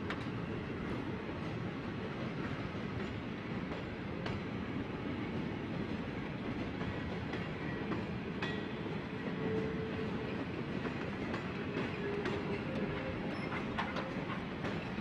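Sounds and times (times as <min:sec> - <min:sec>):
train cars rumbling: 0:00.0 - 0:15.0.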